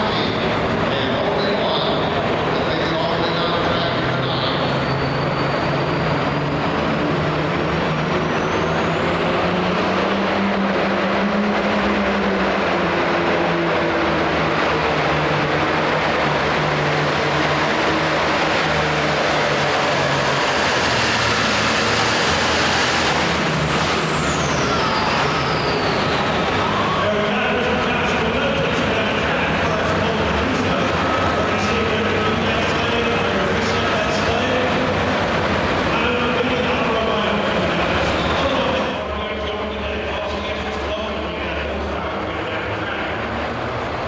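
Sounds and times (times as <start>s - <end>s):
high turbo whine: 0.0s - 44.0s
tractor diesel engine running: 0.0s - 44.0s.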